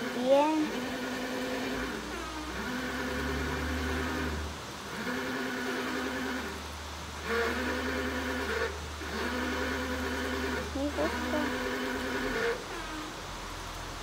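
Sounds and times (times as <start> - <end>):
washer pump motor whirring: 0.0 - 14.0.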